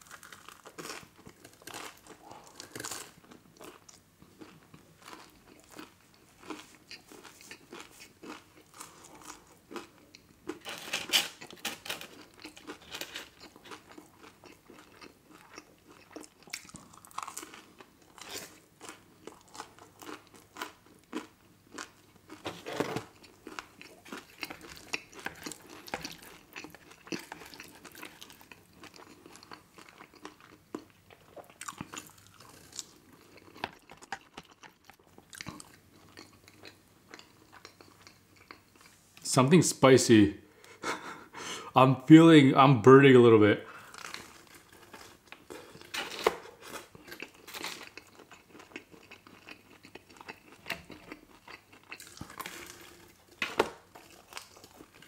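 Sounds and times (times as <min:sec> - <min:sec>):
person chewing food: 0:00.0 - 0:39.0, 0:43.7 - 0:55.0.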